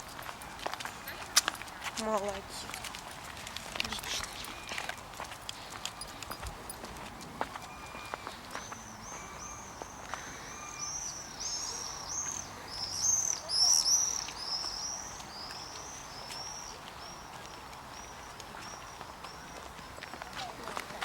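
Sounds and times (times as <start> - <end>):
songbird singing: 3.8 - 21.0.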